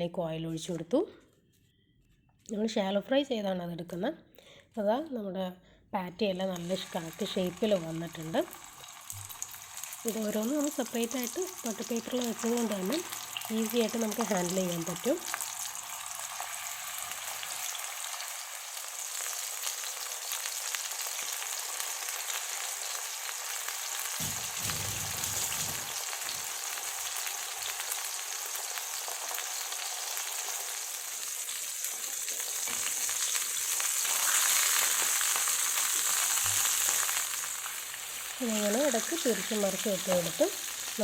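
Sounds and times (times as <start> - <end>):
patties sizzling in hot oil: 6.3 - 41.0.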